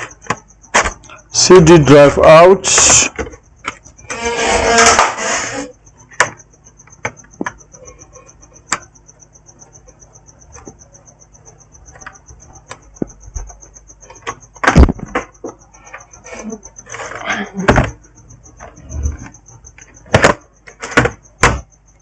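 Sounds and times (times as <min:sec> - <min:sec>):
faint high pulsing trill: 0:00.0 - 0:22.0.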